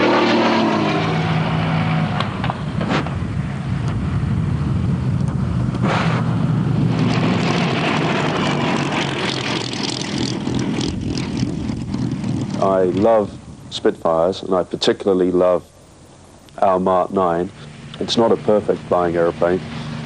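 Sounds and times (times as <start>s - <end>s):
engine crackles: 0.0s - 20.0s
piston aircraft engine droning: 0.0s - 20.0s.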